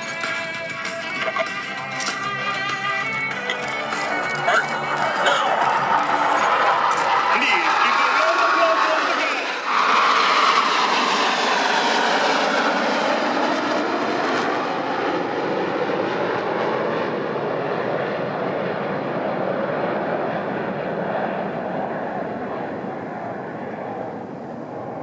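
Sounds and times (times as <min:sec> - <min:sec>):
jets flying past: 0:00.0 - 0:25.0.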